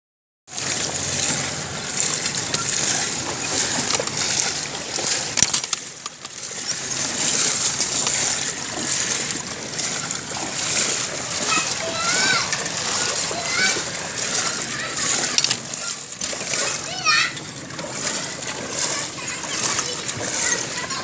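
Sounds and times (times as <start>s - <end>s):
floodwater rushing and splashing: 0.5s - 21.0s.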